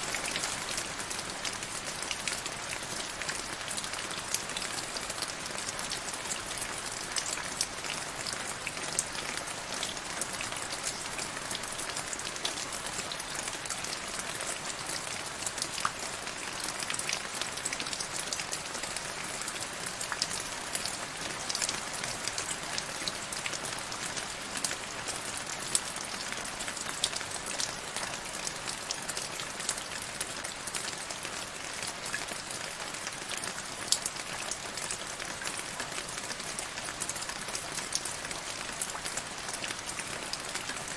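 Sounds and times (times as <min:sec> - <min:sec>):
rain splashing into a puddle: 0:00.0 - 0:40.9.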